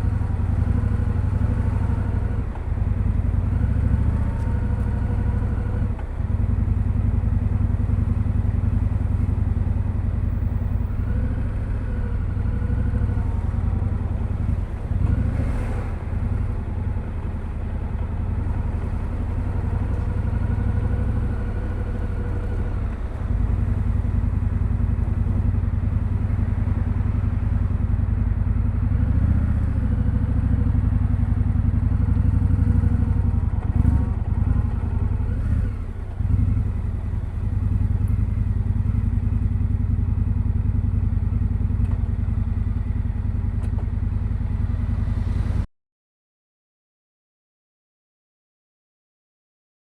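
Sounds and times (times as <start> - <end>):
motorcycle engine revving: 0.0 - 45.7.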